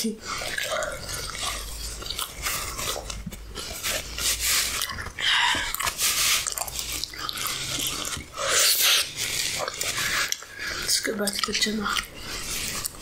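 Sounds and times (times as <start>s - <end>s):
person biting and chewing food: 0.2s - 13.0s
wet mouth noises: 0.2s - 13.0s.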